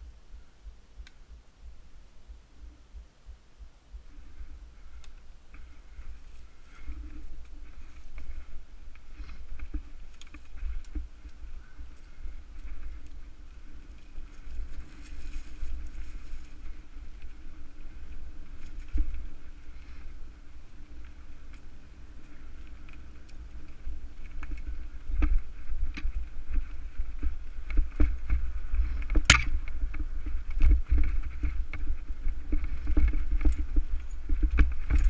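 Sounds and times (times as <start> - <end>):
bike tyres rolling on dirt trail: 0.0 - 35.0
wind buffeting microphone: 3.9 - 35.0
bike rattling and clicking: 4.3 - 35.0.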